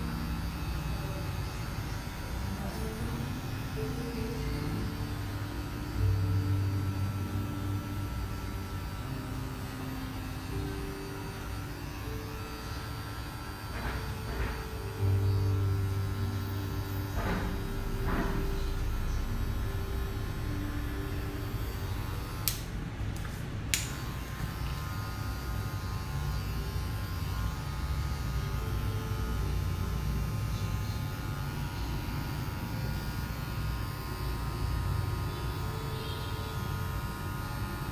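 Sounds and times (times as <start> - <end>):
electric hair clipper humming: 0.0 - 37.9.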